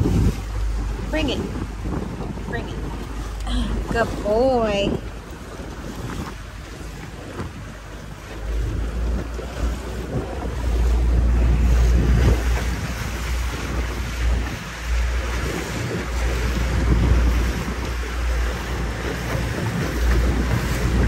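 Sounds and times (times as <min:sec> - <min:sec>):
water rushing along hull: 0:00.0 - 0:21.0
wind buffeting microphone: 0:00.0 - 0:21.0.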